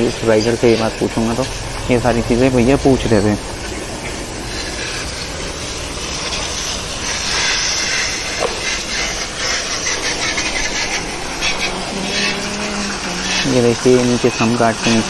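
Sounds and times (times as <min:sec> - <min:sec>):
water spray hissing on metal: 0:00.0 - 0:15.0.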